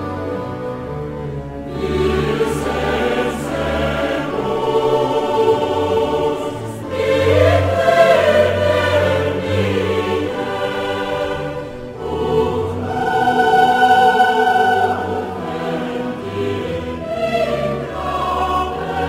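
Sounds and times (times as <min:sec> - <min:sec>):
choir singing held chords: 0:00.0 - 0:19.0.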